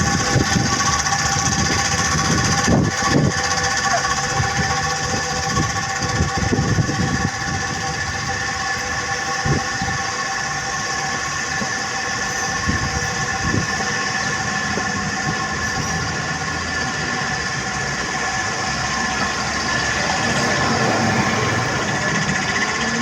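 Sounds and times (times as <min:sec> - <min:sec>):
mechanical whine: 0:00.0 - 0:23.0.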